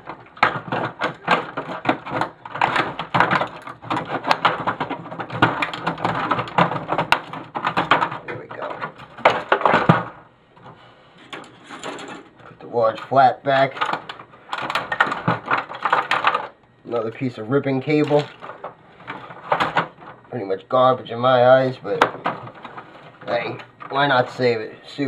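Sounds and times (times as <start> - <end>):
plastic parts clicking and rattling: 0.0 - 20.3, 21.5 - 25.0.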